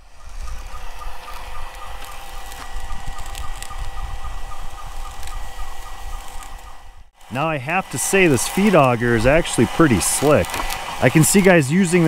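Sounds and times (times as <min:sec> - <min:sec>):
electric motors humming: 0:00.0 - 0:12.0.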